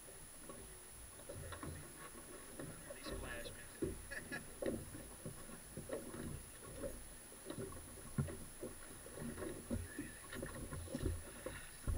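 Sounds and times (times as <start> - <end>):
water slapping at hull: 0.0 - 11.9.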